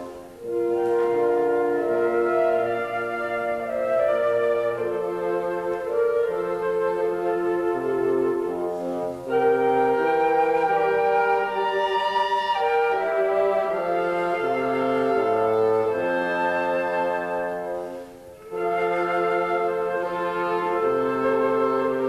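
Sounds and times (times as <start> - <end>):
wind ensemble playing slow chords: 0.0 - 22.0.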